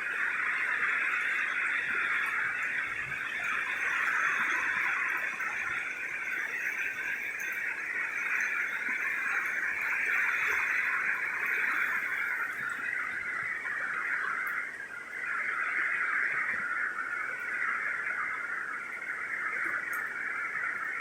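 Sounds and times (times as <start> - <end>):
chorus of frogs trilling: 0.0 - 21.0.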